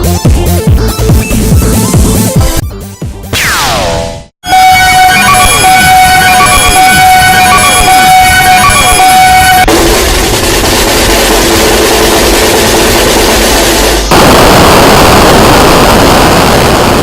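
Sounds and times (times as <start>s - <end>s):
loud background music: 0.0s - 14.3s.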